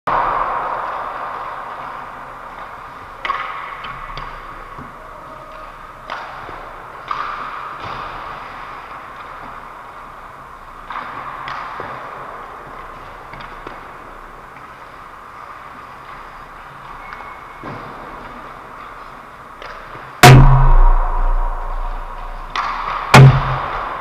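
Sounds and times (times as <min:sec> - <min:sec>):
hockey pucks clacking: 0:00.1 - 0:20.4, 0:22.0 - 0:24.0
background hiss: 0:00.1 - 0:24.0.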